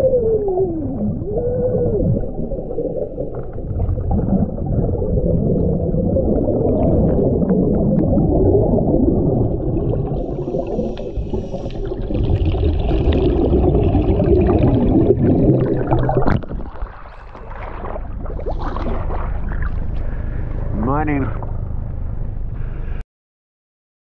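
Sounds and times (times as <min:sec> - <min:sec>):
underwater bubbling: 0:00.0 - 0:22.9.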